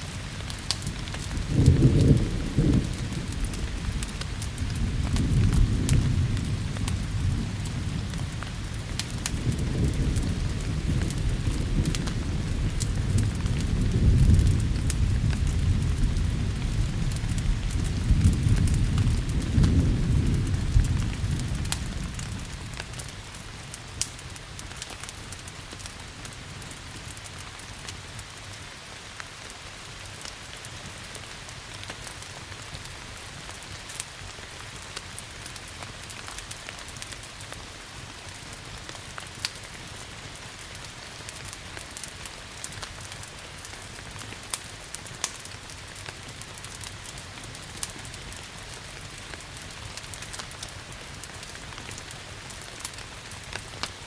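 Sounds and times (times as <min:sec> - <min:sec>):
crackling wood fire: 0:00.0 - 0:54.0
steady rain: 0:00.0 - 0:54.0.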